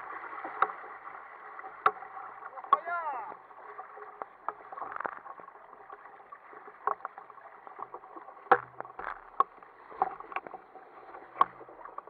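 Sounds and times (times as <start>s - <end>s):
choppy water rushing against a hull: 0.0s - 12.0s.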